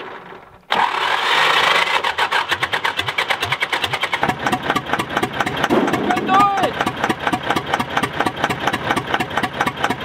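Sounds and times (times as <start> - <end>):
diesel tractor engine cranking and chugging: 0.0 - 10.0.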